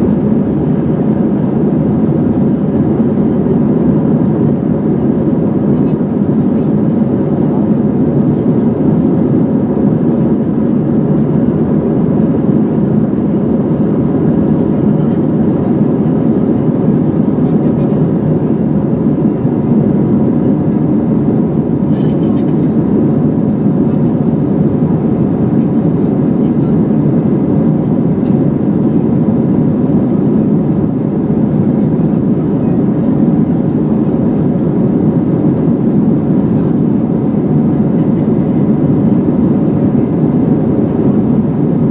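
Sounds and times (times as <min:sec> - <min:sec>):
jet engine drone in cabin: 0:00.0 - 0:41.9.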